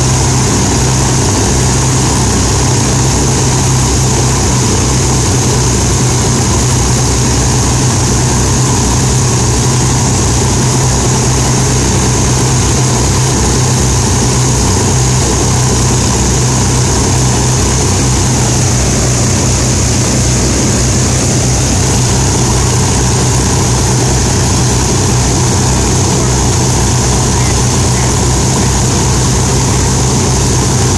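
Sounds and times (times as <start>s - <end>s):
propeller engine drone: 0.0s - 30.9s.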